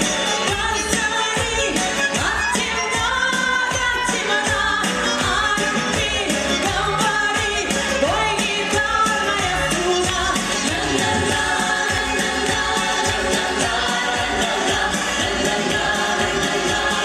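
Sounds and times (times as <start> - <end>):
pop song singing over beat: 0.0 - 17.0.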